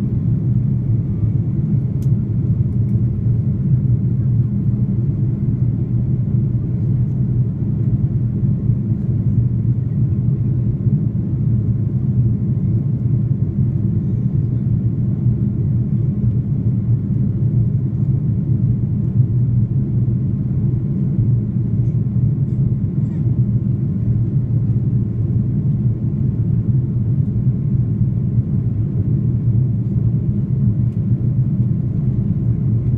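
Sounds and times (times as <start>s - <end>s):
airplane cabin engine rumble: 0.0s - 32.9s.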